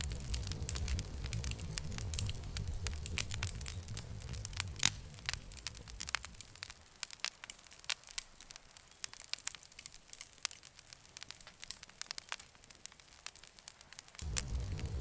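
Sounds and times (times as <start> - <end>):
campfire crackling: 0.0 - 15.0
fire pops and snaps: 0.0 - 15.0.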